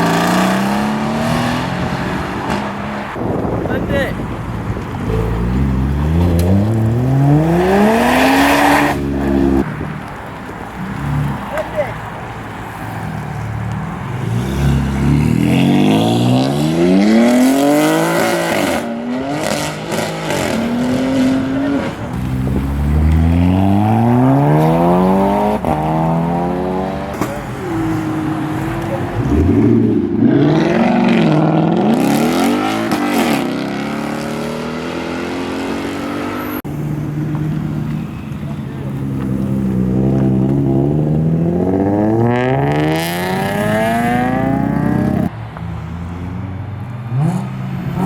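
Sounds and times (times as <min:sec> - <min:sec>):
car engine revving: 0:00.0 - 0:12.0, 0:12.6 - 0:48.0.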